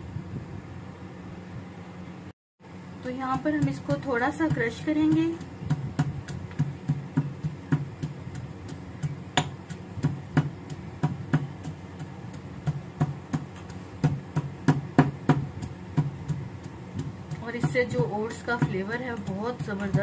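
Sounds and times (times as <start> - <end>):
stone pestle pounding in mortar: 3.3 - 20.0.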